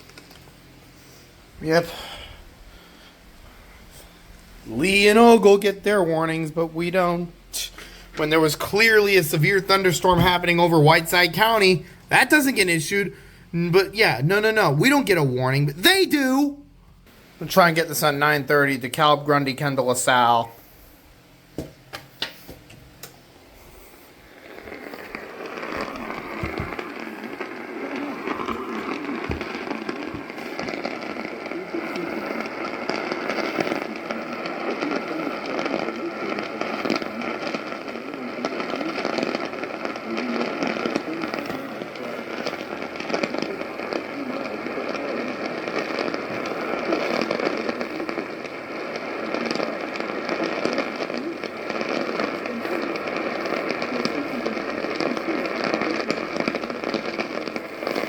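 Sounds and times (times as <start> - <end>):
radio static hiss and crackle: 0.0 - 58.0.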